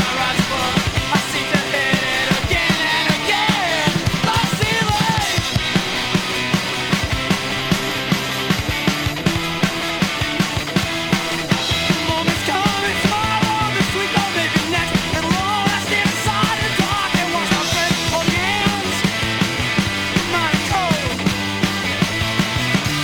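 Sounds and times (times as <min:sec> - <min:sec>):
bass: 0:00.0 - 0:23.0
driving drum beat: 0:00.0 - 0:23.0
rock guitar: 0:00.0 - 0:23.0.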